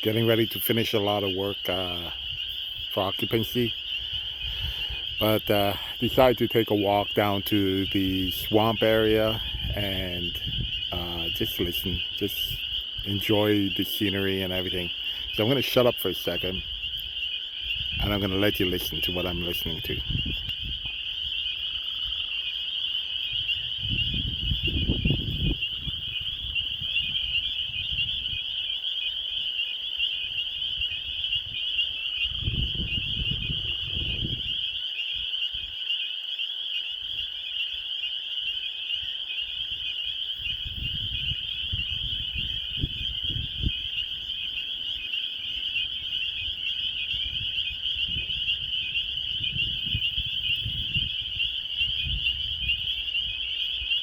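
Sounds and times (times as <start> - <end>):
frog chorus trilling: 0.0 - 54.0.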